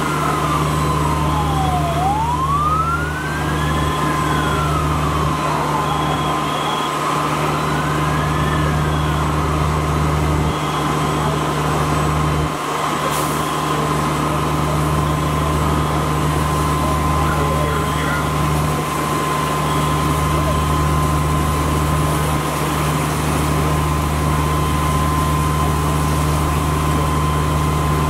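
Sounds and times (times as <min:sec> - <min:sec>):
fire engine siren wailing: 0:00.0 - 0:28.0.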